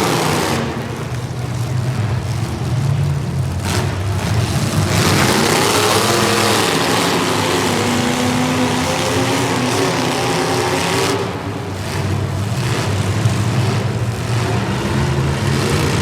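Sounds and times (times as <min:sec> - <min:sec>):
racing engines revving: 0:00.0 - 0:16.0.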